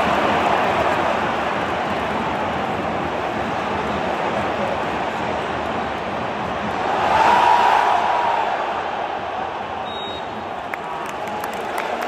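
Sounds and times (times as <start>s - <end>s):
stadium crowd roaring: 0.0s - 12.0s.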